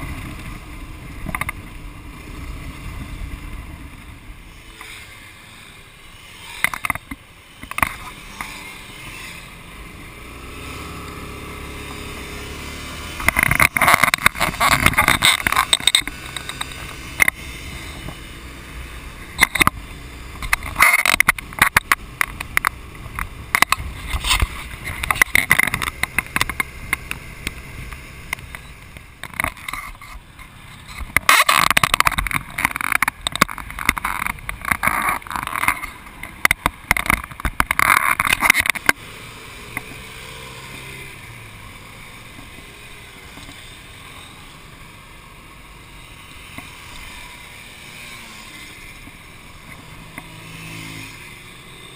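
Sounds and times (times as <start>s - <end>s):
road noise rush: 0.0s - 51.9s.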